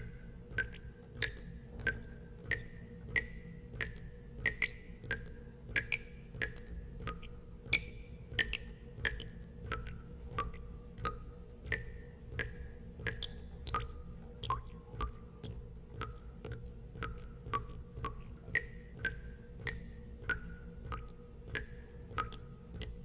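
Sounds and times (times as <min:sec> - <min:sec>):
water drops plinking into water: 0:00.0 - 0:23.0.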